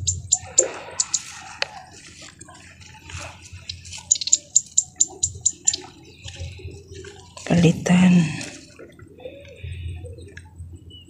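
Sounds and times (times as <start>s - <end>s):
water sloshing: 0.0s - 9.2s.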